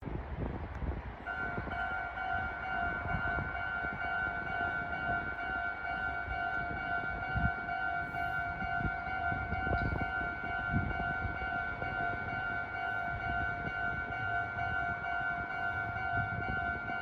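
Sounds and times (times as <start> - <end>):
level crossing alarm bell: 1.3 - 17.0.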